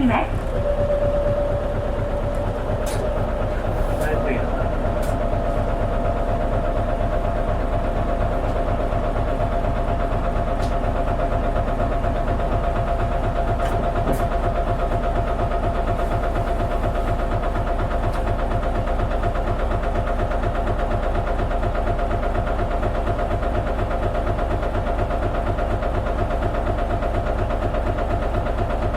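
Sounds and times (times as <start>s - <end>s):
diesel bus engine idling: 0.0s - 28.9s.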